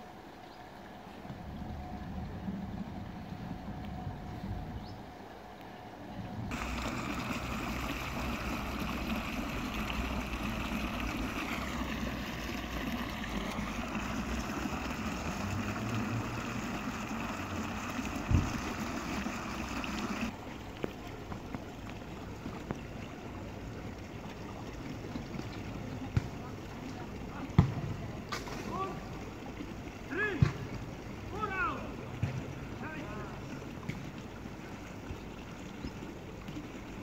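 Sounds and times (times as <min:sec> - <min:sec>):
fountain water splashing into basin: 0:06.5 - 0:37.0.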